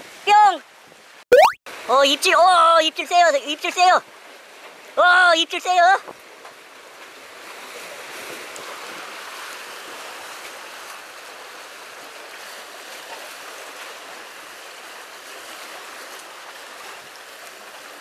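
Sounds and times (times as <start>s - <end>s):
sea surf washing on concrete: 0.0s - 18.0s.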